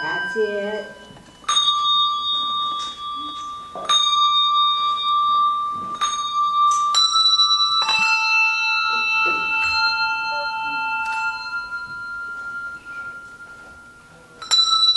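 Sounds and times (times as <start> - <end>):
handbells ringing: 0.0 - 14.9.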